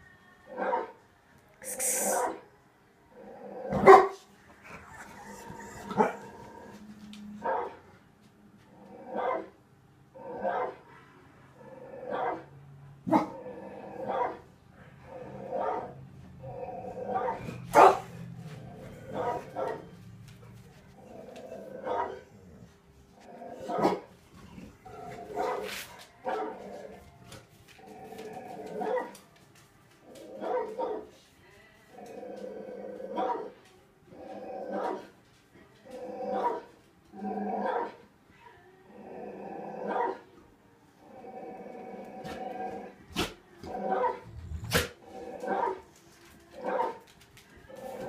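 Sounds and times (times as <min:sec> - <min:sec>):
dog barking and growling: 0:03.1 - 0:07.9, 0:08.7 - 0:10.9, 0:11.5 - 0:29.3, 0:30.0 - 0:31.2, 0:31.9 - 0:35.2, 0:35.9 - 0:38.2, 0:38.9 - 0:40.4, 0:41.0 - 0:48.0.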